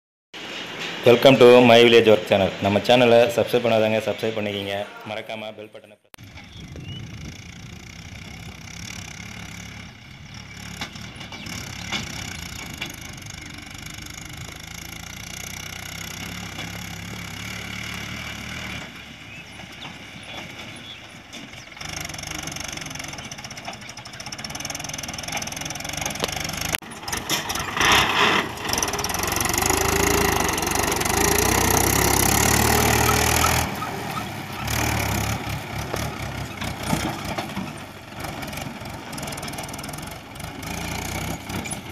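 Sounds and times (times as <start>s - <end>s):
tractor engines running: 0.4s - 5.0s, 6.2s - 41.9s.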